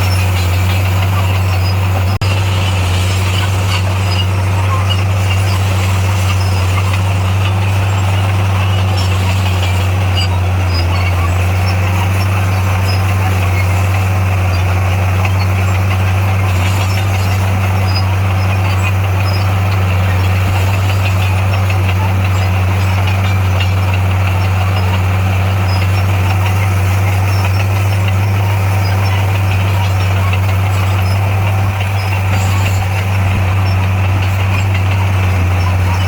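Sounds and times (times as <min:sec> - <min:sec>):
diesel engine humming steadily: 0:00.0 - 0:36.0.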